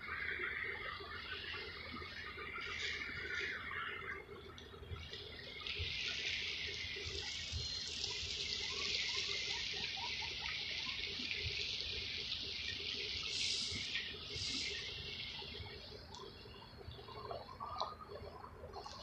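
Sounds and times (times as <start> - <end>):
water trickling and lapping: 0.0 - 19.0.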